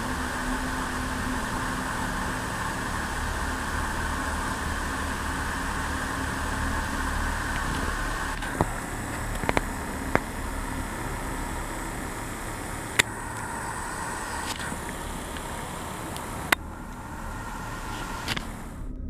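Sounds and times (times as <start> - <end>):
outdoor rushing noise: 0.0 - 19.0.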